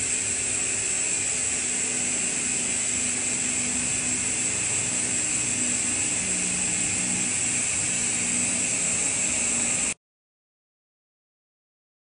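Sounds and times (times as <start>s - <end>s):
high hiss of air: 0.0s - 10.0s
model steam engine running: 0.0s - 10.0s.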